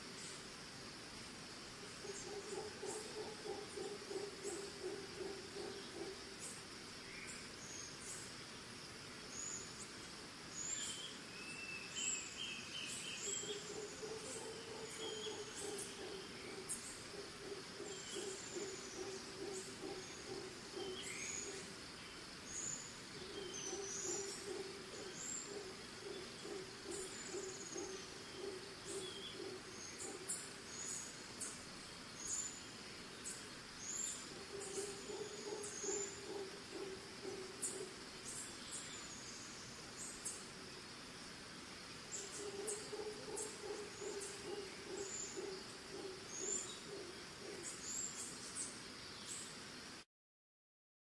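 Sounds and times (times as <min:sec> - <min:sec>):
crickets and insects droning: 0:00.0 - 0:50.0.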